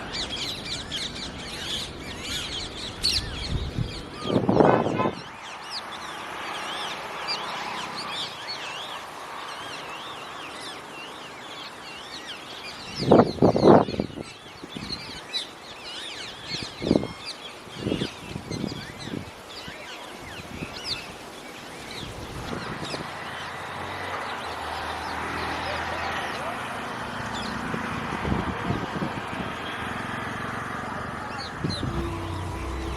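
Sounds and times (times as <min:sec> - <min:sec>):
high bird twittering: 0:00.0 - 0:26.6
loud bird calls: 0:00.0 - 0:32.9.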